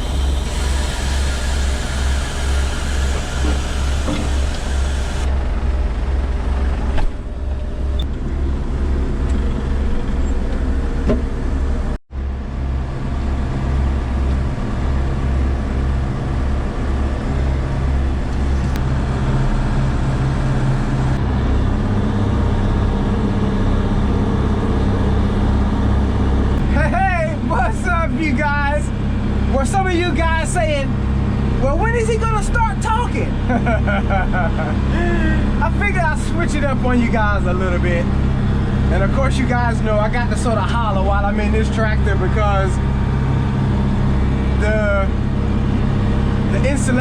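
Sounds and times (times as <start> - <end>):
tractor engine droning: 0.0 - 47.0.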